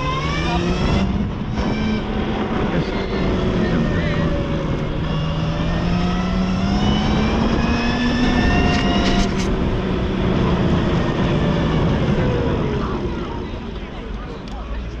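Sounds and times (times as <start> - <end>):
constant rushing noise: 0.0 - 15.0.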